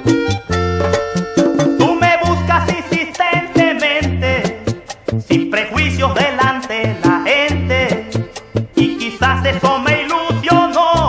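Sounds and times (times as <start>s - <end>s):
accordion melody: 0.0s - 11.0s
repeating bass line: 0.0s - 11.0s
steady percussion: 0.0s - 11.0s.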